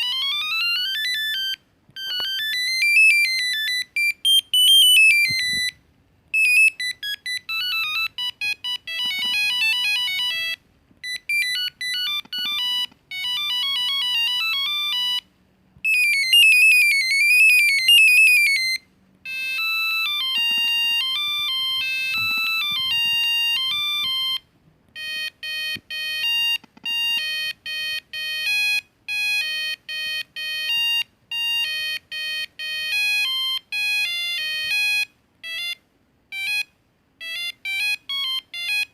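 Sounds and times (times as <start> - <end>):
mobile phone beeping ringtones: 0.0 - 38.9.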